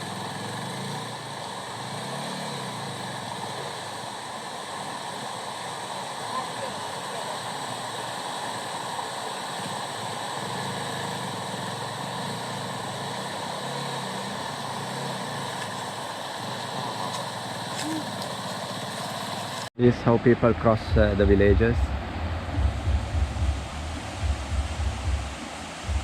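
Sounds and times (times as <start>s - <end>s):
motorcycle engine running: 0.0s - 19.7s, 20.4s - 26.0s
river water rushing: 0.0s - 19.7s, 21.9s - 26.0s.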